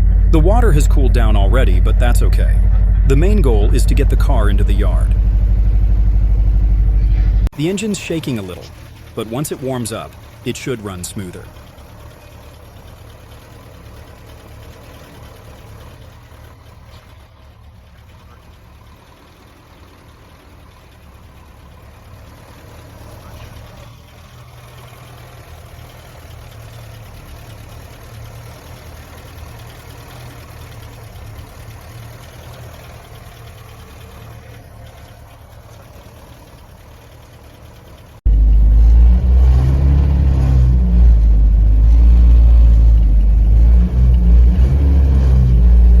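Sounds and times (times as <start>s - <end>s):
car engine idling: 0.0s - 46.0s
loud close engine noise: 0.0s - 46.0s.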